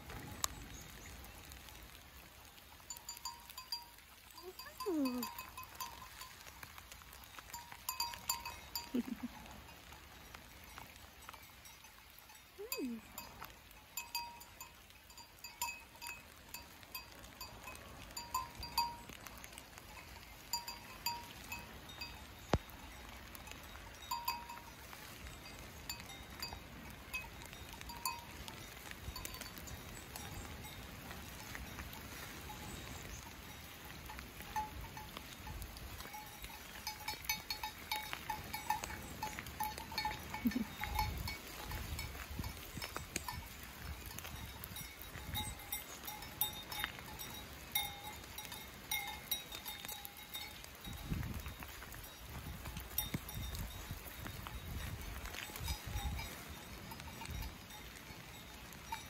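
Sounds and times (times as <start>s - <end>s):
light rain pattering: 0.0s - 59.0s
cowbells clanking: 2.9s - 59.0s.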